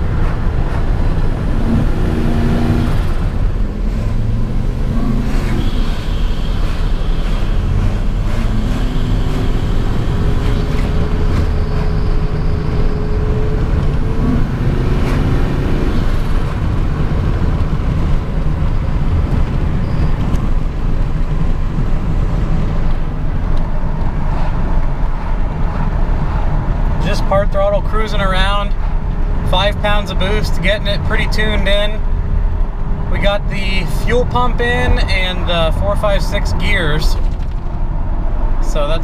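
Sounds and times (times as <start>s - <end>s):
road noise: 0.0s - 39.0s
truck engine rumbling: 0.0s - 39.0s.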